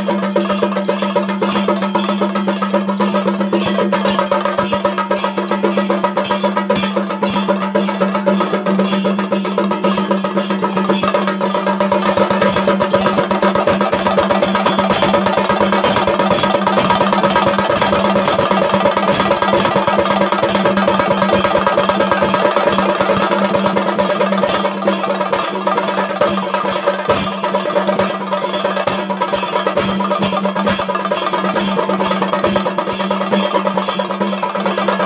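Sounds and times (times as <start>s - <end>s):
drums beaten with sticks: 0.0s - 35.0s.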